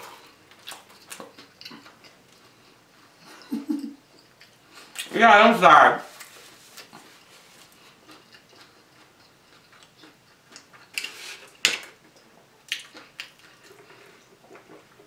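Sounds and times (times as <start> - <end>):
soft eating ticks: 0.2 - 3.5, 4.1 - 5.1, 6.1 - 11.1, 12.1 - 15.0.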